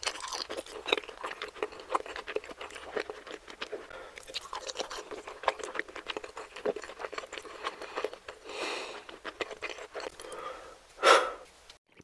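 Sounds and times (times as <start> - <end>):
chewing with wet mouth clicks: 0.0 - 10.4.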